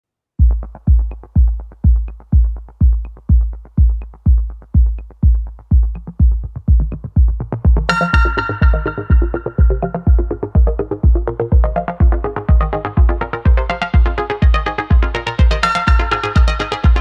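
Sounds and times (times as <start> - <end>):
electronic music: 0.4 - 17.0
light ticking percussion: 0.4 - 17.0
steady kick drum: 0.4 - 17.0.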